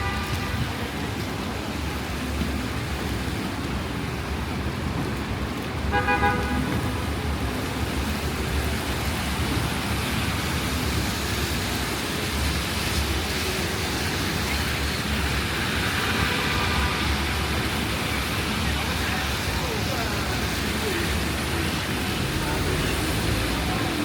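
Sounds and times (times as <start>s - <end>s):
city street traffic: 0.0s - 24.0s
rain: 0.0s - 24.0s.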